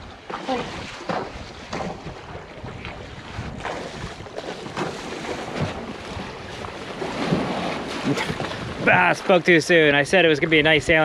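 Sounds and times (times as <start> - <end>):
water washing along hull: 0.0 - 11.0
wind buffeting microphone: 0.0 - 11.0.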